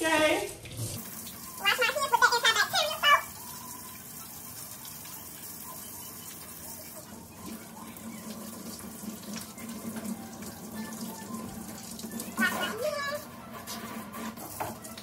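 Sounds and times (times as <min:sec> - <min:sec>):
faucet running into metal sink: 0:00.4 - 0:15.0.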